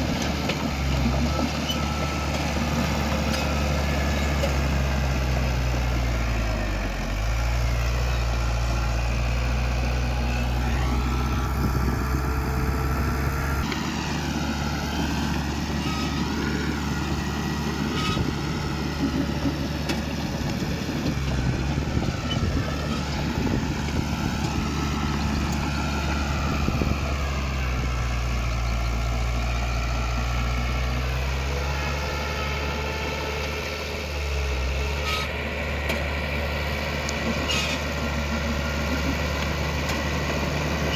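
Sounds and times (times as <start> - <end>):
heavy machinery diesel engine: 0.0 - 40.9.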